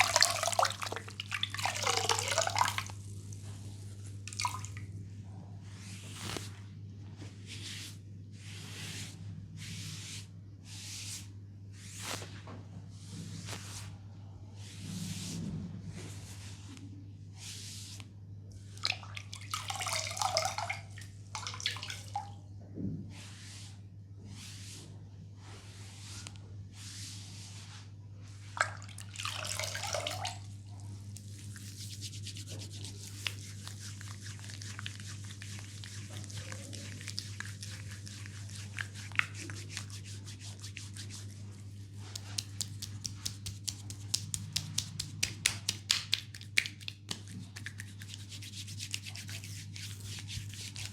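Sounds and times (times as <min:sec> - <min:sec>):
brushing and scrubbing on skin: 0:00.0 - 0:04.9, 0:05.6 - 0:14.0, 0:14.6 - 0:16.8, 0:23.2 - 0:50.9.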